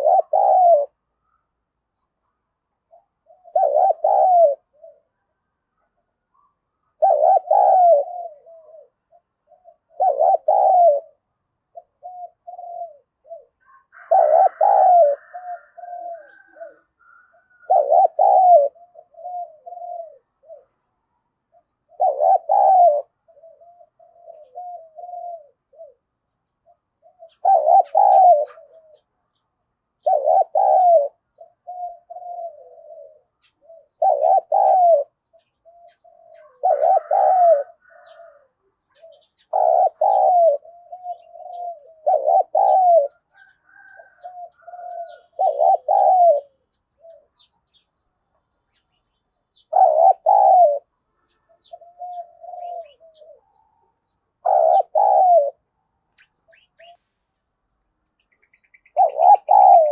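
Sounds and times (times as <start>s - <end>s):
dove cooing: 0.0s - 57.2s, 58.3s - 59.9s.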